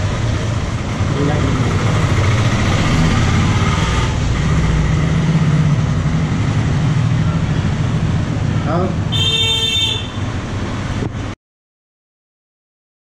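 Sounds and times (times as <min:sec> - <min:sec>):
road noise: 0:00.0 - 0:11.4
vehicle engine humming: 0:00.0 - 0:11.4.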